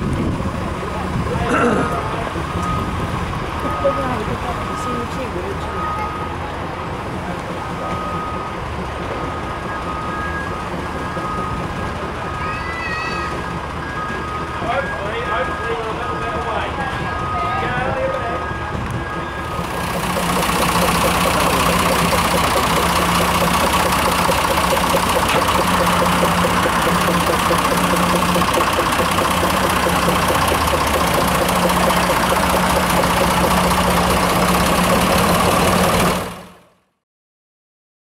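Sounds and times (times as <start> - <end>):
locomotive engine idling: 0.0 - 36.8.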